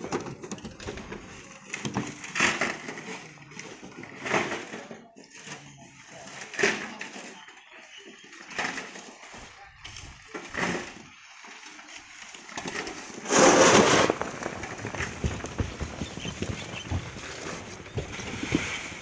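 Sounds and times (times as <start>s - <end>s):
wheelbarrows crunching over gravel: 0.0s - 19.0s.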